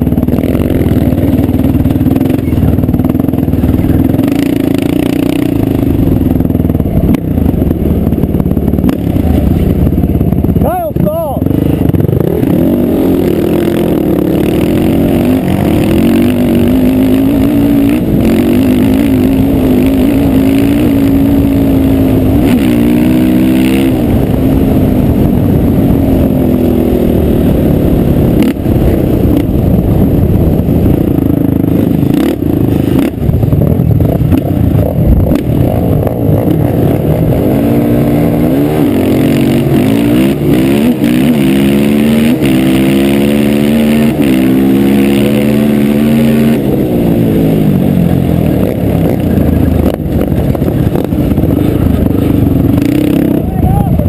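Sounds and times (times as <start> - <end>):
wind rumbling on microphone: 0.0 - 43.4, 44.1 - 54.0
quad bike engine revving: 0.0 - 54.0.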